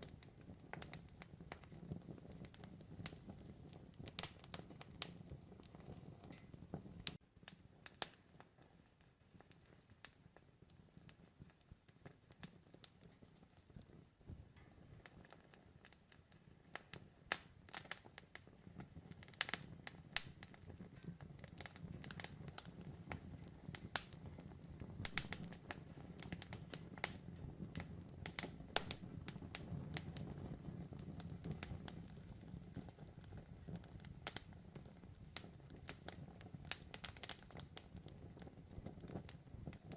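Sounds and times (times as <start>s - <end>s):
campfire pops and snaps: 0.0s - 39.9s
low rumble of flames: 0.0s - 39.9s.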